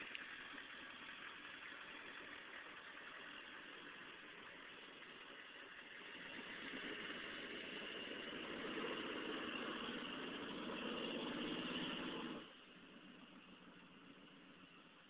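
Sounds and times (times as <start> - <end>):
diesel engine working hard: 0.0 - 15.0.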